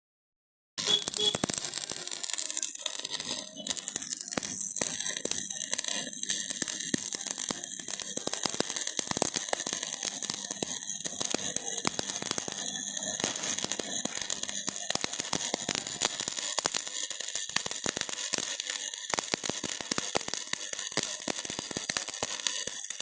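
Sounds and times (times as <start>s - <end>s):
welding arc crackling: 0.8s - 23.0s.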